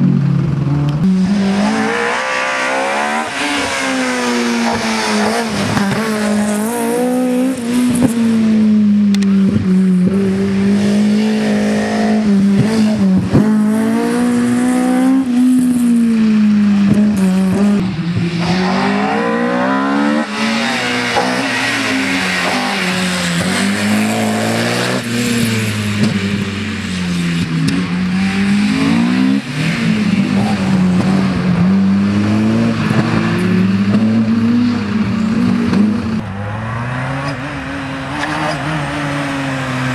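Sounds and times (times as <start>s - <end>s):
rally car engines revving high: 0.0s - 39.9s.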